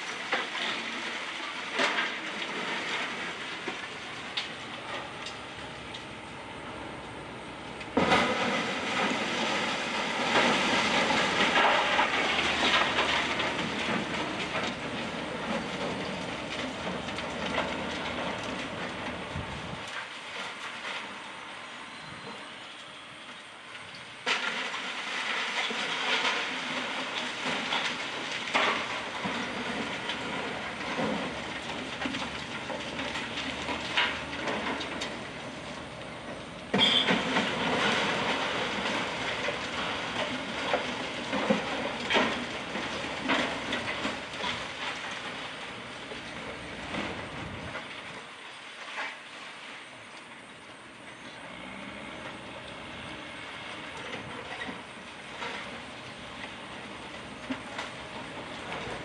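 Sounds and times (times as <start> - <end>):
debris crashing and rattling: 0.0 - 6.0, 7.9 - 21.3, 24.2 - 49.8, 53.4 - 59.0.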